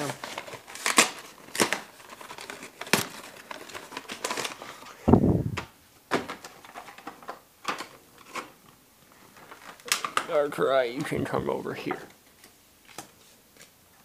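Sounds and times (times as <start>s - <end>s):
wrapper rustling: 0.0s - 5.6s, 6.3s - 13.6s.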